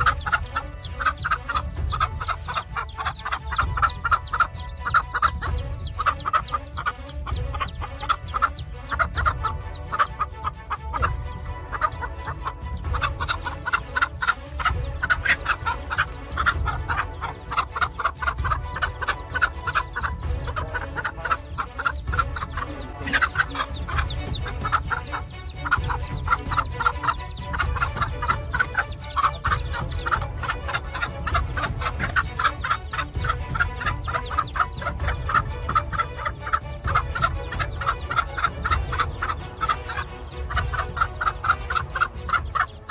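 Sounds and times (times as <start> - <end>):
hen clucking rapidly: 0.0 - 42.9.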